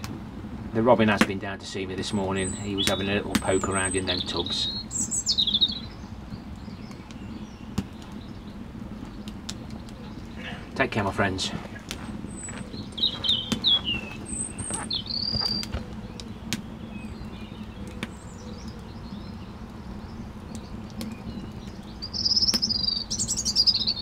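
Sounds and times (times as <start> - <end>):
small birds chirping: 0.0 - 24.0
wood fire crackling: 0.0 - 24.0.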